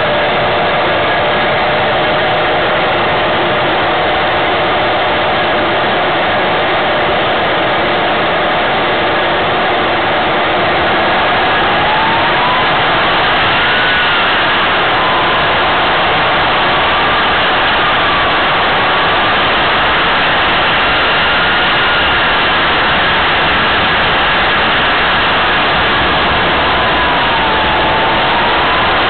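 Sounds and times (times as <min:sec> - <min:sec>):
jet turbine rushing and whining: 0:00.0 - 0:29.0.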